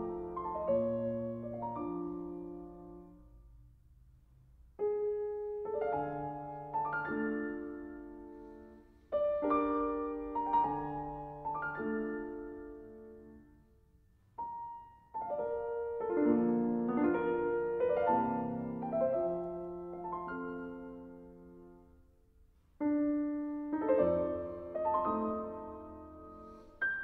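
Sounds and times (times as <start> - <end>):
soft slow solo piano: 0.0 - 3.6, 4.7 - 22.1, 22.8 - 27.0.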